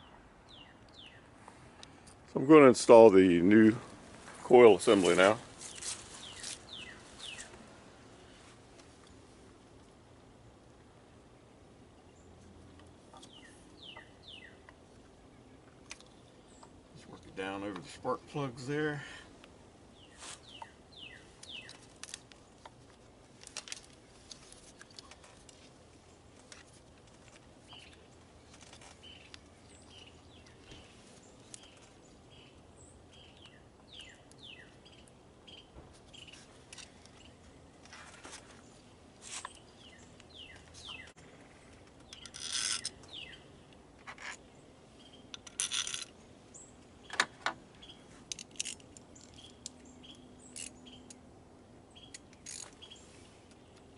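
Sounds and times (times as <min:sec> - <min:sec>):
small birds chirping: 0:00.0 - 0:03.8, 0:04.4 - 0:08.5, 0:11.2 - 0:53.9.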